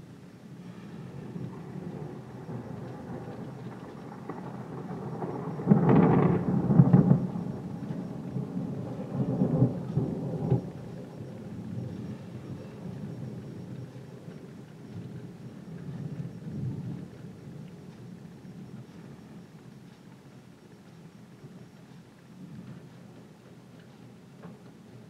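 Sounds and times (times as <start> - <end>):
thunder rumbling: 0.0 - 21.8
heavy rain: 0.0 - 25.0.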